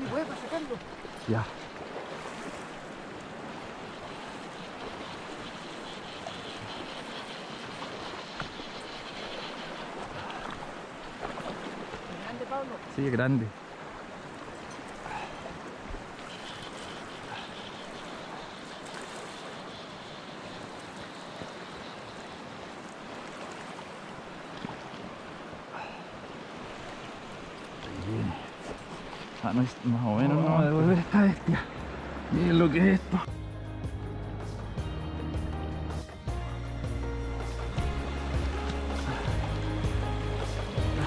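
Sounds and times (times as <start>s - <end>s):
fast river rushing: 0.0s - 33.4s, 34.5s - 41.0s.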